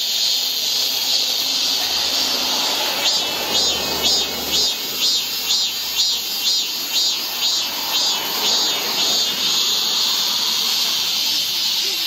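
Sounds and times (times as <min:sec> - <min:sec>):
cicada buzzing: 0:00.0 - 0:12.0.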